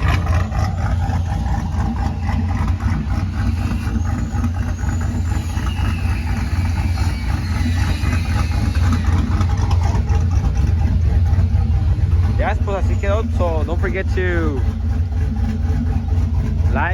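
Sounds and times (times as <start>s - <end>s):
pickup truck engine idling: 0.0s - 16.9s.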